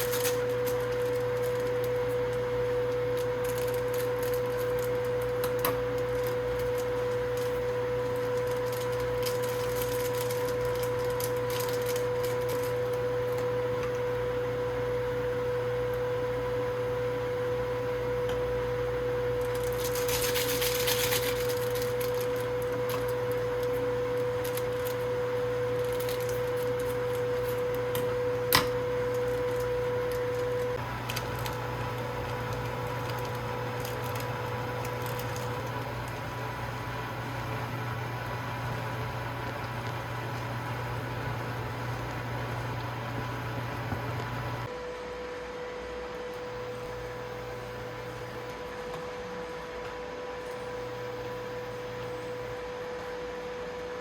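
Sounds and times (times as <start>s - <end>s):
appliance electrical hum: 0.0s - 54.0s.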